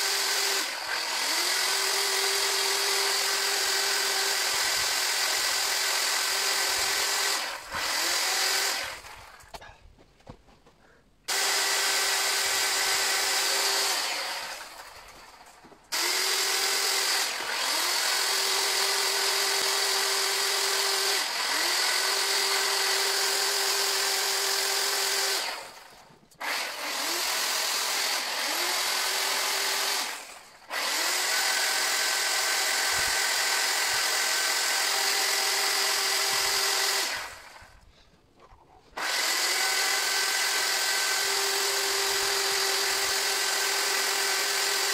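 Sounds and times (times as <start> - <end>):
chainsaw cutting wood: 0.0 - 9.7, 11.3 - 38.0, 38.9 - 44.9.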